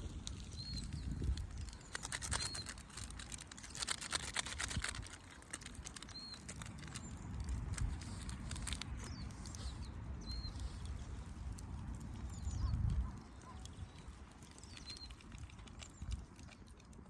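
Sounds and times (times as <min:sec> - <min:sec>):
bird chirping: 0:00.0 - 0:03.8, 0:05.8 - 0:16.6.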